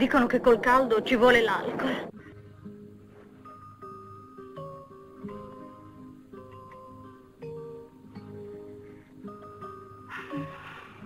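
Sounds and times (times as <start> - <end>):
slow film music with held notes: 2.1 - 11.0.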